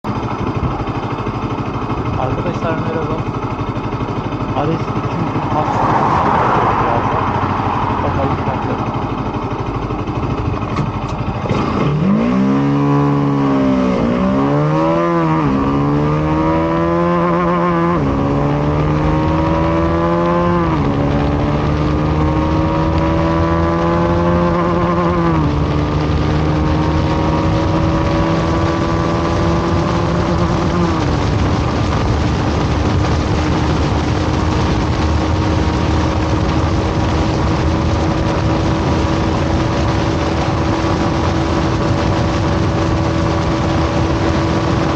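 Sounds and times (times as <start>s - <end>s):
motorcycle engine accelerating: 0.0s - 44.9s
wind rush: 3.9s - 11.0s, 13.9s - 44.9s.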